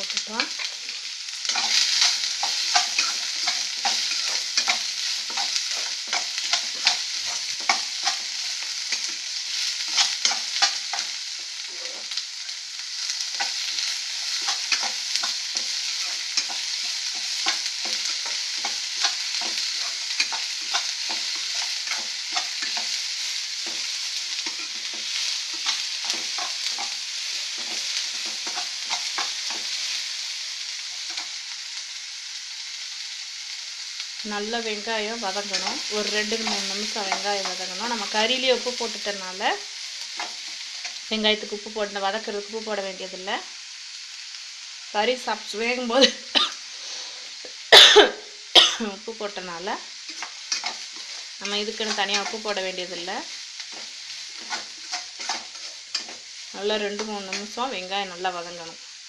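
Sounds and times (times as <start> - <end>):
onions sizzling in oil: 0.0 - 59.0.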